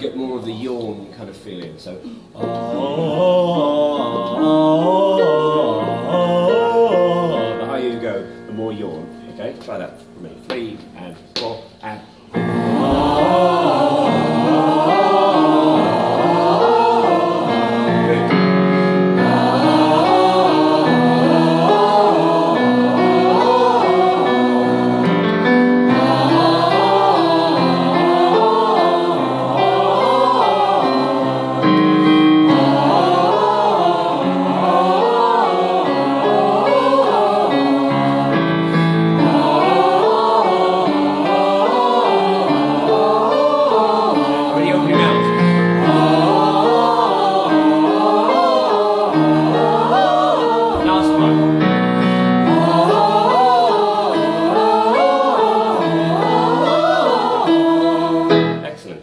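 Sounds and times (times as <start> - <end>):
choir singing vocal warm-up: 2.0 - 59.0
digital piano chords: 2.2 - 59.0.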